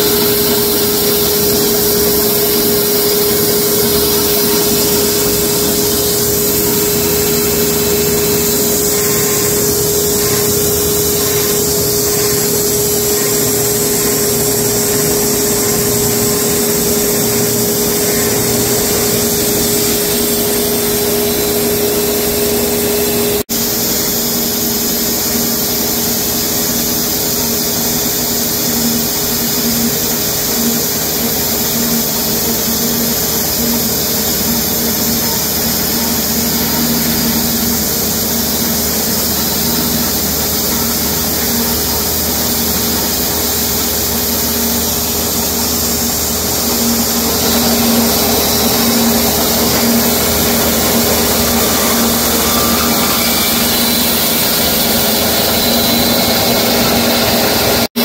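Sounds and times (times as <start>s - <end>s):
sawmill whine: 0.0s - 58.0s.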